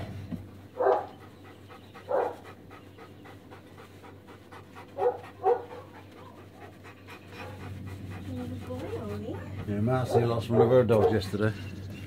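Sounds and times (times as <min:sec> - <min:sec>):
dog panting: 0:00.5 - 0:11.8
dog vocal sounds: 0:00.6 - 0:11.6.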